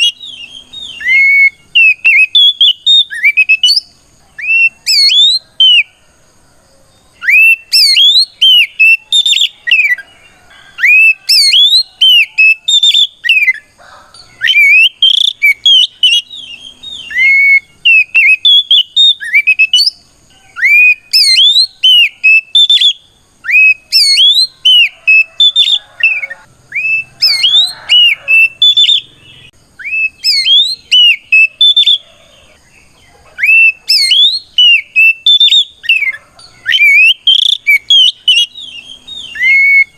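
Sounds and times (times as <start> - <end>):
bird singing whistled notes: 0.0 - 6.0, 7.0 - 39.9.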